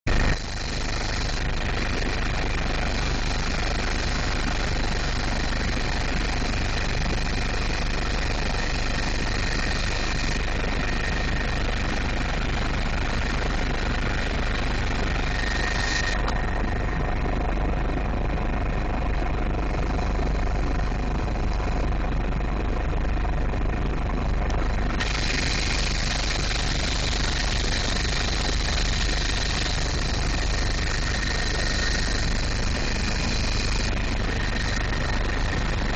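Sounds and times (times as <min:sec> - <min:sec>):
helicopter rotor and engine drone: 0:00.0 - 0:35.9.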